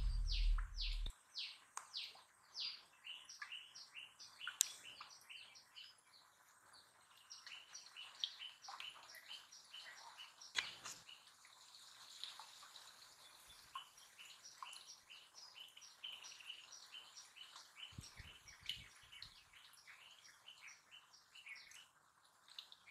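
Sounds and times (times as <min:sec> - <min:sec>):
birds chirping: 0:00.0 - 0:11.7, 0:12.9 - 0:22.9.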